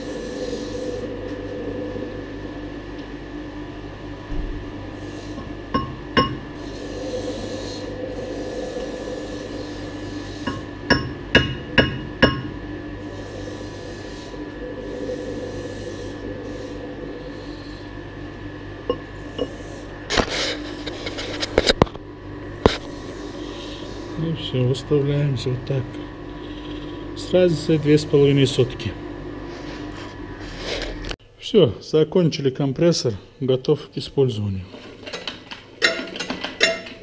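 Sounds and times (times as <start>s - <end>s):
shop machinery hum: 0.0s - 37.0s.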